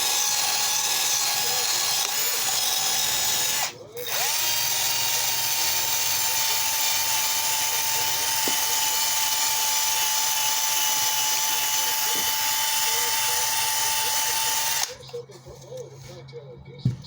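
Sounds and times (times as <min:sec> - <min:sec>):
electric drill whining: 0:00.0 - 0:15.0.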